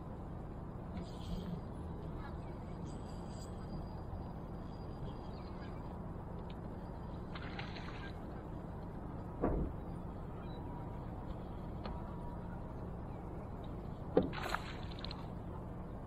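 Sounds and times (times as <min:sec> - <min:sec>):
boat low hum: 0:00.0 - 0:16.0.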